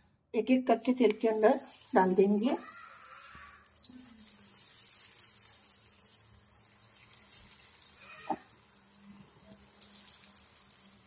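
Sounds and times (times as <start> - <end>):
oil sizzling while deep-frying: 0.8 - 11.0.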